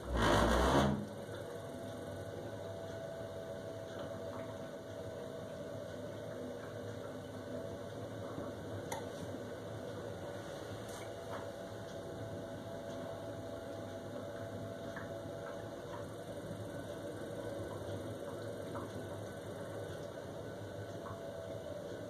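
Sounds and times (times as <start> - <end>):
boiler burner rumble: 0.0 - 22.0
boiler humming: 0.0 - 22.0.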